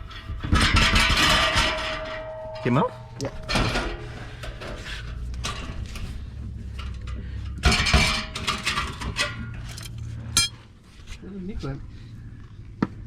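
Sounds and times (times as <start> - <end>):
metal clinking and knocking: 0.0 - 10.6.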